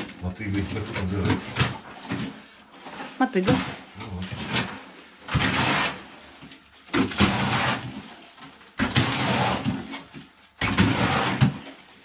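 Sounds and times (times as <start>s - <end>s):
hoe scraping wet concrete: 0.0s - 12.0s.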